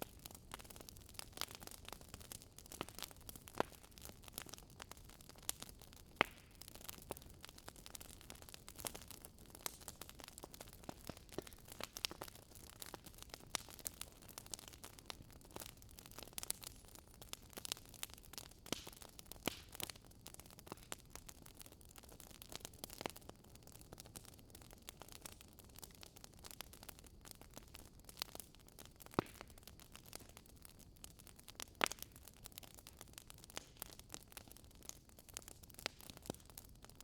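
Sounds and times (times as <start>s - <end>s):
soft steady hiss: 0.0s - 37.0s
wood fire crackling and popping: 0.0s - 37.0s.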